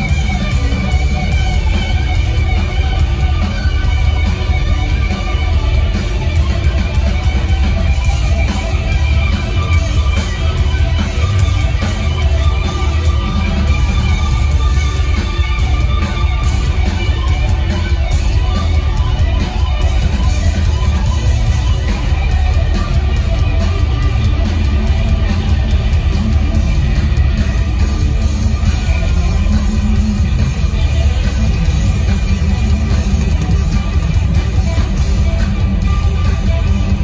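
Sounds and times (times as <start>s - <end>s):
bass guitar: 0.0s - 37.0s
drums: 0.0s - 37.0s
electric guitar: 0.0s - 37.0s.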